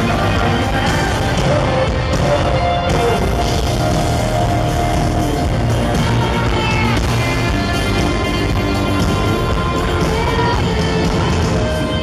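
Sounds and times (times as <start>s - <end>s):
drum kit: 0.0s - 12.0s
electric guitar: 0.0s - 12.0s
live band playing country-rock: 0.0s - 12.0s.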